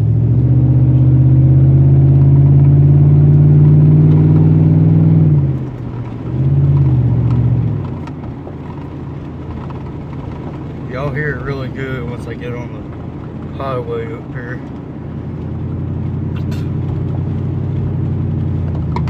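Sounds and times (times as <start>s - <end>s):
truck exhaust drone: 0.0s - 19.0s.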